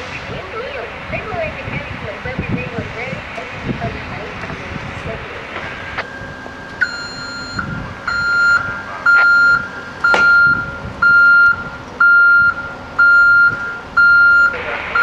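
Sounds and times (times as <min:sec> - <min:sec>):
truck backup alarm beeping: 0:00.0 - 0:15.0.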